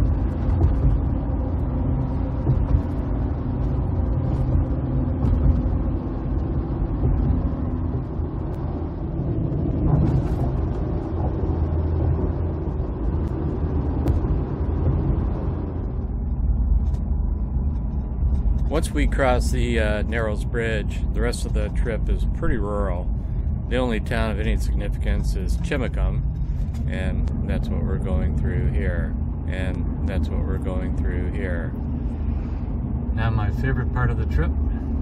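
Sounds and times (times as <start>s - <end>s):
vehicle road and engine noise: 0.0s - 35.0s.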